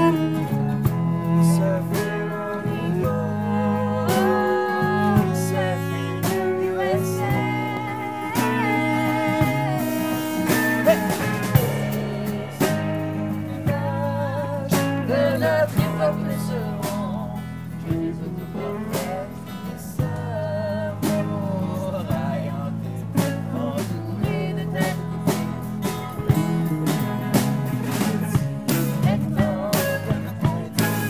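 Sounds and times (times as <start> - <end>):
acoustic guitar strumming: 0.0 - 31.0
bowed cello: 0.0 - 31.0
drum kit with cymbals: 0.0 - 31.0
electric guitar: 0.0 - 31.0.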